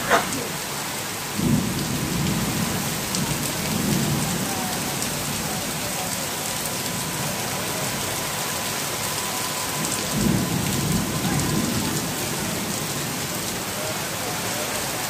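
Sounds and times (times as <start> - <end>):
heavy rain on a street: 0.0 - 15.0.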